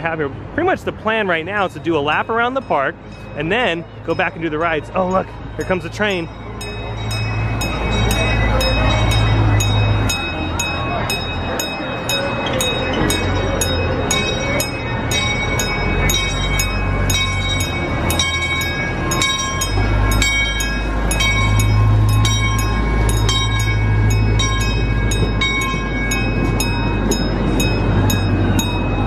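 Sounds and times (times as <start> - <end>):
locomotive low rumble: 0.0 - 29.0
railroad crossing bell ringing: 0.0 - 29.0.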